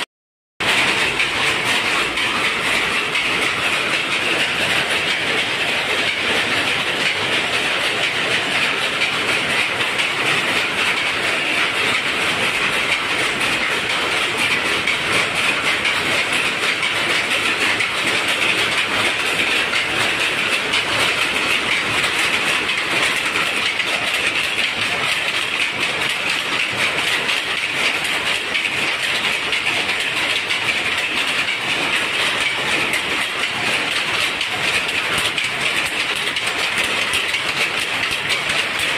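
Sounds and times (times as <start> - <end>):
power looms clattering: 0.6 - 38.9.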